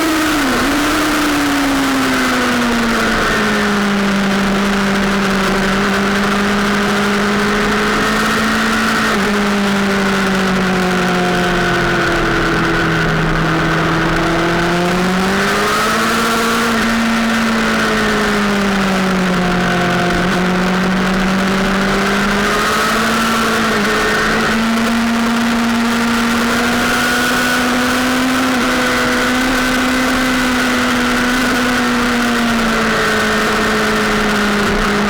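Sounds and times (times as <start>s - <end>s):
motorbike engine running hard: 0.0s - 35.0s.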